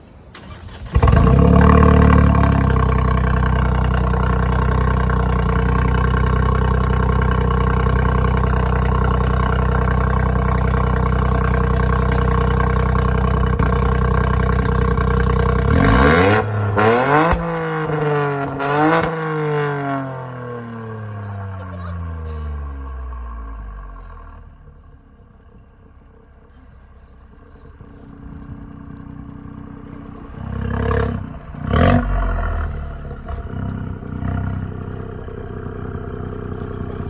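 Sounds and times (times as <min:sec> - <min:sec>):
car engine starting and idling: 0:00.0 - 0:37.0
car engine revving: 0:00.8 - 0:25.6, 0:27.6 - 0:37.0.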